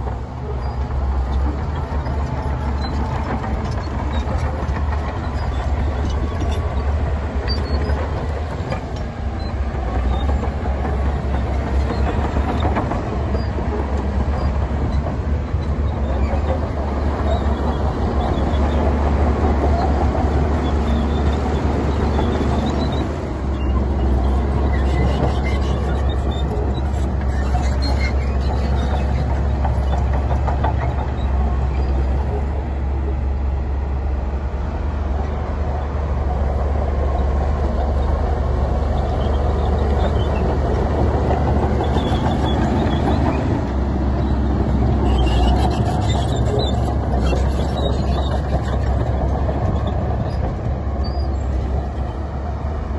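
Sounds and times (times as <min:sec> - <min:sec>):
heavy diesel engine drone: 0:00.0 - 0:52.9
machinery rattling and clatter: 0:00.0 - 0:52.9.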